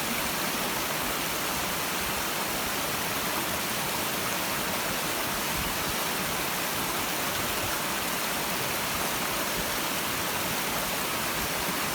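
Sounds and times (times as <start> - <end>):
stream water rushing: 0.0 - 11.9.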